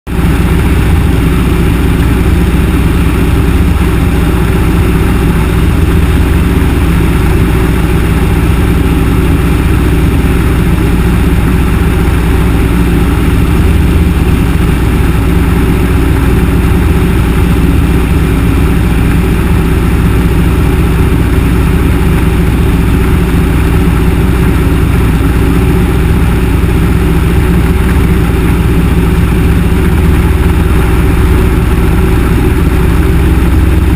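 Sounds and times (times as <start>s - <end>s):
propeller aircraft engine running: 0.0s - 33.9s.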